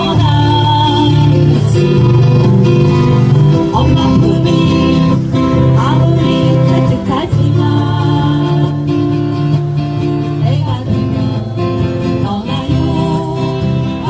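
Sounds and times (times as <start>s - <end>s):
acoustic guitars strumming: 0.0s - 14.0s
band playing: 0.0s - 14.0s.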